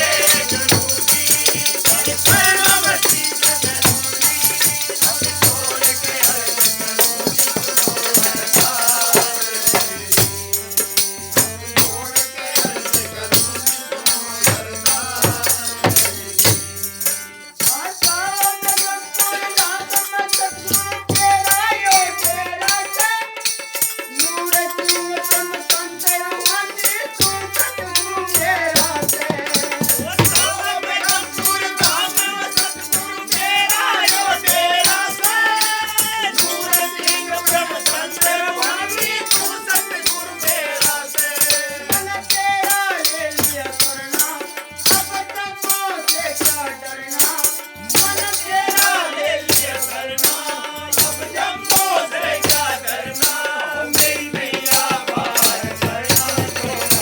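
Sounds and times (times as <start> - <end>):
devotional melody: 0.0 - 57.0
fast rattling percussion: 0.0 - 57.0.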